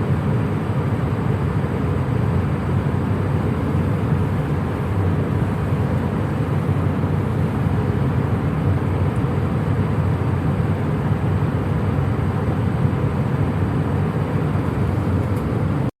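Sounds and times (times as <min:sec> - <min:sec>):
jet cabin engine rumble: 0:00.0 - 0:16.0.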